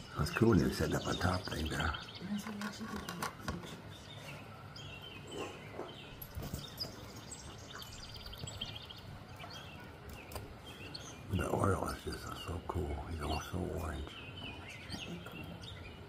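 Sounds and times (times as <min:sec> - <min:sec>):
birds chirping: 0:00.0 - 0:16.0
outdoor background hiss: 0:00.0 - 0:16.0.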